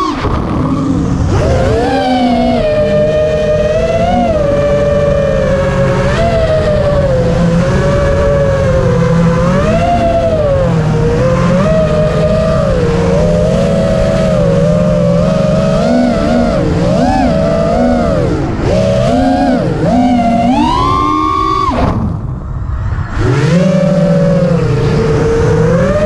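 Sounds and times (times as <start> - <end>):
quadcopter motors whining: 0.0 - 22.3, 22.9 - 26.0.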